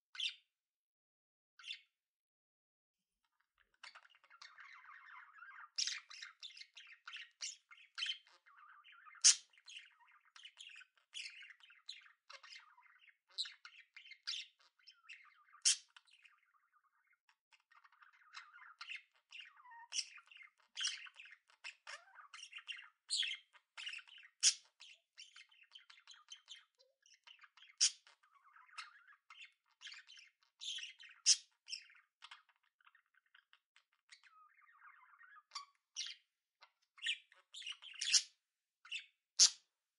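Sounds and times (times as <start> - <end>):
budgerigars chirping: 3.8 - 38.3, 38.9 - 39.6.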